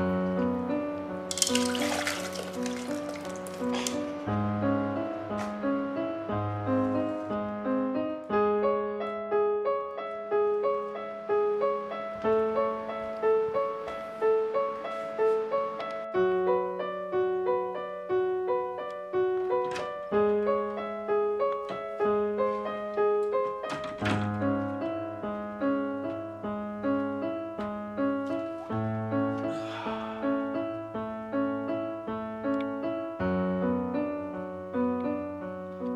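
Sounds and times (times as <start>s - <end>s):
piano music: 0.0s - 35.9s.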